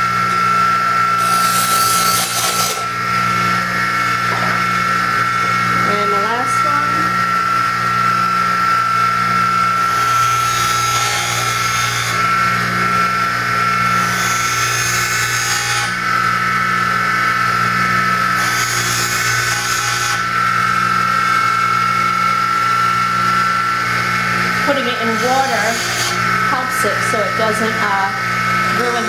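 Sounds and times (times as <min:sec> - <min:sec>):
grinder high whine: 0:00.0 - 0:29.0
tool grinding on wheel: 0:00.0 - 0:29.0.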